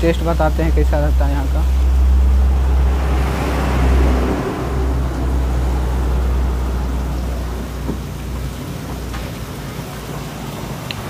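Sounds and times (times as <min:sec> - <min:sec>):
vehicle passing: 0:00.0 - 0:10.4
low rumble of road traffic: 0:00.0 - 0:11.0.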